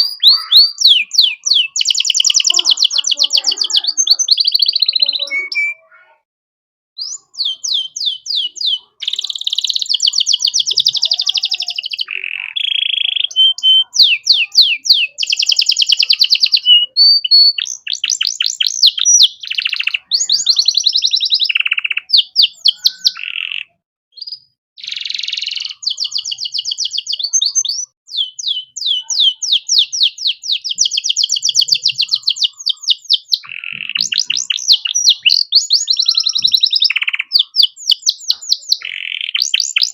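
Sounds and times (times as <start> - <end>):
canary singing trills: 0.0 - 6.1, 7.0 - 39.9.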